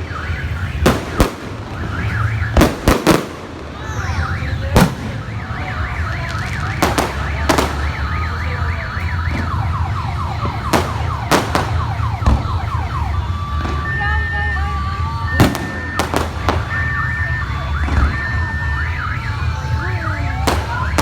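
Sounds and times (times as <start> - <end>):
fireworks bangs: 0.0 - 19.6, 20.2 - 21.0
car alarm: 0.0 - 21.0.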